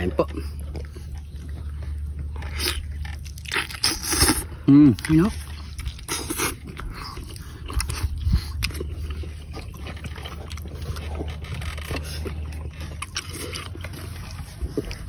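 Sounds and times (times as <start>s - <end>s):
steady low rumble: 0.0s - 15.0s
wet chewing smacks and clicks: 0.0s - 15.0s.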